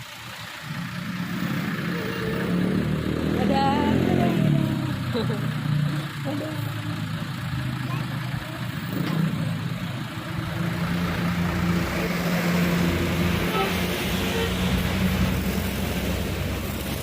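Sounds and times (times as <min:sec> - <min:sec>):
large vehicle engine running: 0:00.0 - 0:17.0
road noise: 0:00.0 - 0:17.0.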